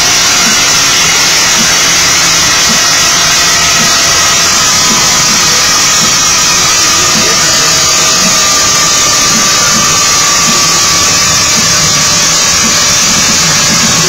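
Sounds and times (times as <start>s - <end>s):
motorcycle engine running steadily: 0.0s - 14.0s.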